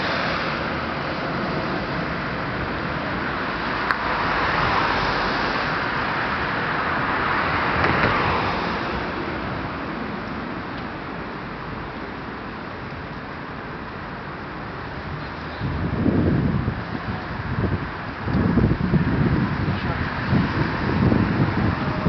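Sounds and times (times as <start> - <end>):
cars passing by: 0.0 - 22.0.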